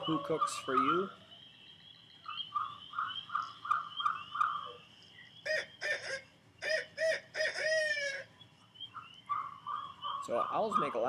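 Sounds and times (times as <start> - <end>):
owls harsh wavering squalls: 0.0 - 11.0.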